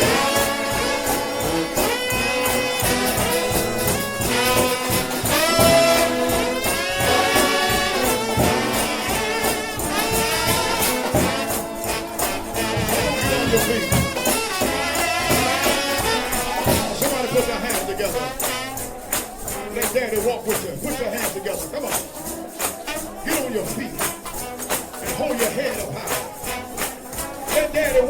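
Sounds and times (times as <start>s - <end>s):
drum and cymbal beat: 0.0s - 28.0s
trombone band playing: 0.0s - 28.0s.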